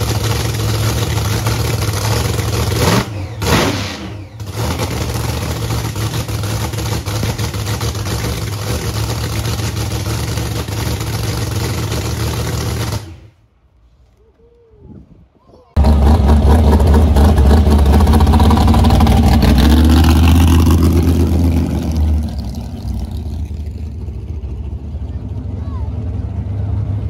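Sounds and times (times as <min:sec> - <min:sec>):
drag race car engine revving and idling: 0:00.0 - 0:13.4, 0:15.8 - 0:27.0.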